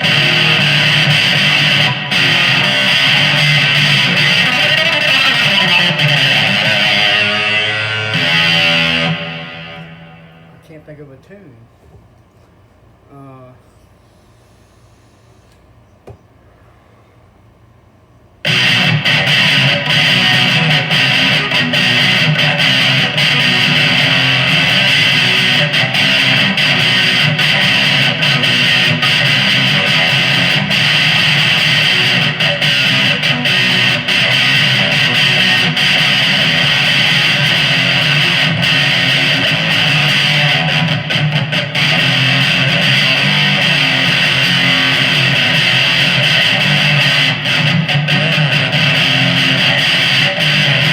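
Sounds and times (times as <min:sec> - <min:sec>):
electric guitar through amplifier: 0:00.0 - 0:12.2, 0:18.4 - 0:50.9.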